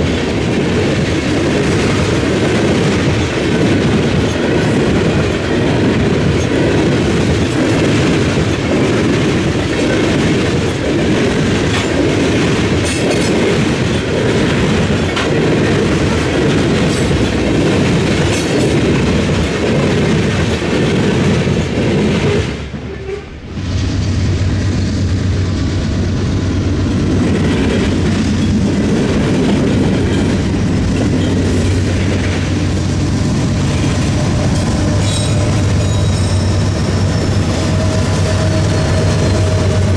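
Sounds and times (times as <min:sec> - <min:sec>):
train wheels clattering: 0:00.0 - 0:39.9.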